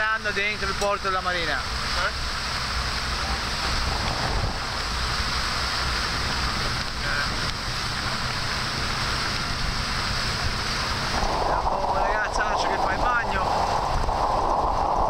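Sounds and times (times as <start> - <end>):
boat engine drone: 0.0 - 15.0
water rushing past hull: 0.0 - 15.0
wind on microphone: 2.8 - 15.0.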